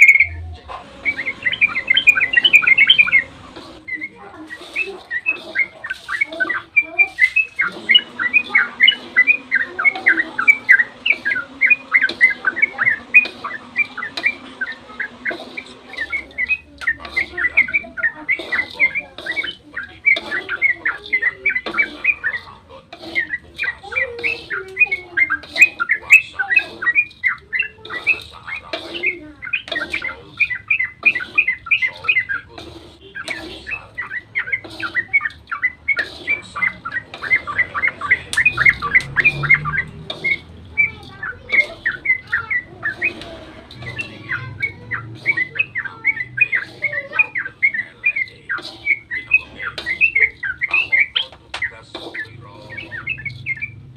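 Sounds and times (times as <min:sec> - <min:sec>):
bulbul singing: 0:00.0 - 0:53.9.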